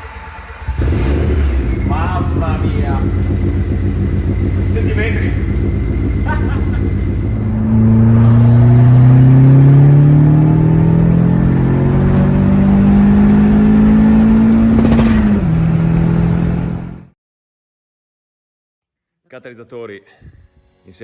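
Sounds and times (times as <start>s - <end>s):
loud car engine running: 0.0s - 17.1s.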